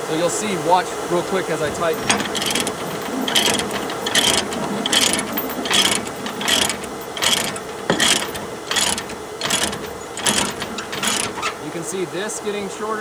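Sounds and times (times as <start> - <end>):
ratchet chain binder rasping: 1.4 - 11.8.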